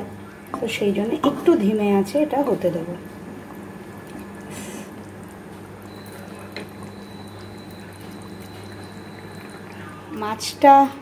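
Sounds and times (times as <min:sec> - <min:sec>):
gravy bubbling in a pan: 0:00.0 - 0:10.5
low steady hum: 0:00.0 - 0:11.0.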